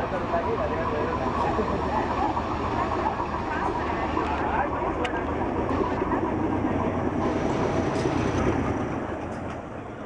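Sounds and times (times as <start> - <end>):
locomotive passing at speed: 0.0 - 10.0
train wheels on rails: 0.0 - 10.0.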